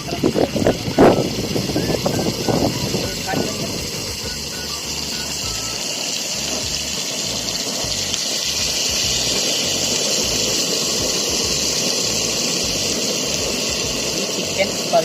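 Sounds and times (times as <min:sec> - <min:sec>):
marinade sizzling in a pan: 0:00.0 - 0:15.0.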